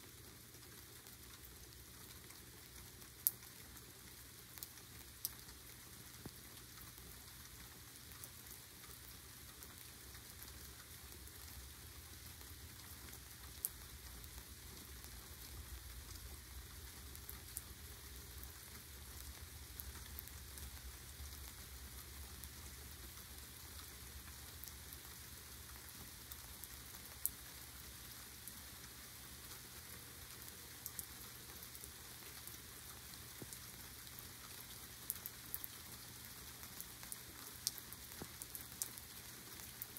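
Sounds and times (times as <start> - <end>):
rain shower hiss: 0.0 - 39.9.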